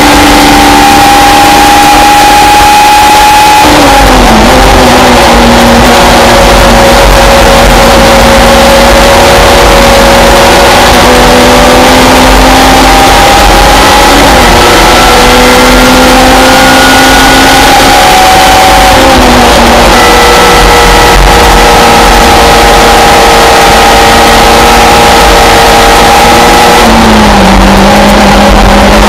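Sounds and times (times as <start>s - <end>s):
racing car engine: 0.0s - 29.0s.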